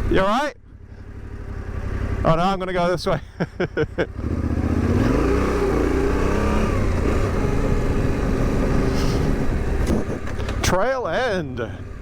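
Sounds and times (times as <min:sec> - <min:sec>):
motorcycle engine revving: 0:00.0 - 0:02.8, 0:03.7 - 0:12.0.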